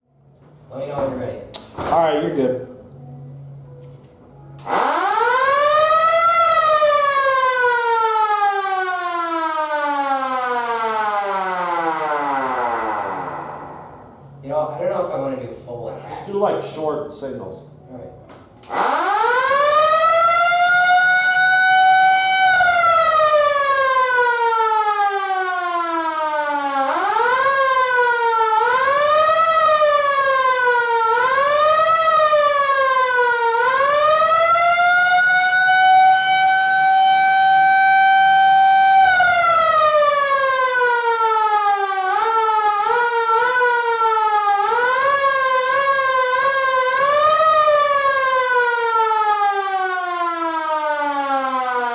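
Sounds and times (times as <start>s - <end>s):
siren wailing: 4.6s - 14.4s, 18.6s - 51.9s.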